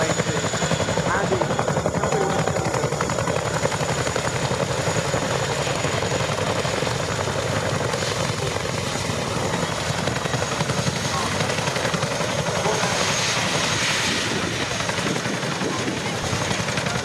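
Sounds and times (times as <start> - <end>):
helicopter rotors beating: 0.0 - 17.0.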